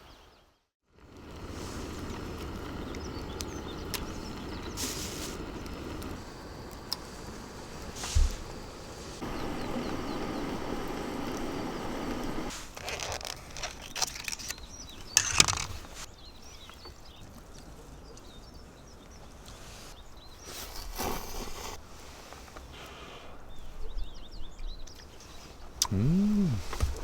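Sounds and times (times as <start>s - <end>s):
small birds chirping: 0.0s - 12.5s, 14.4s - 21.0s, 23.4s - 27.0s.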